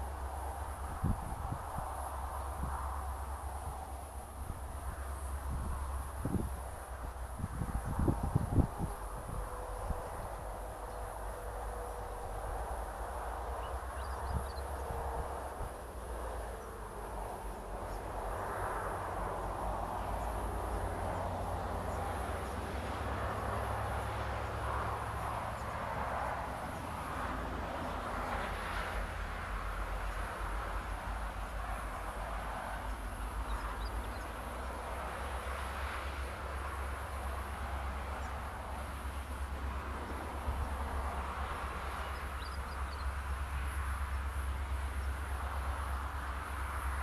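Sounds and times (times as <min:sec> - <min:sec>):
insects chirping: 0:00.0 - 0:47.0
train rumbling past: 0:00.0 - 0:47.0.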